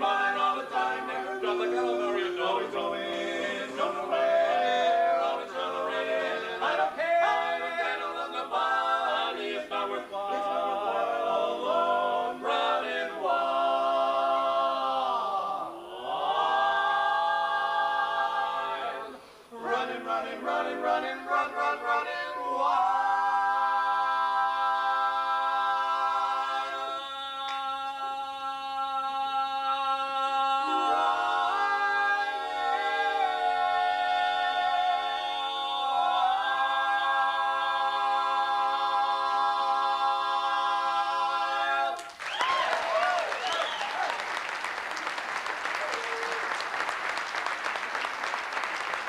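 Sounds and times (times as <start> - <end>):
male quartet singing a cappella: 0.0 - 42.0.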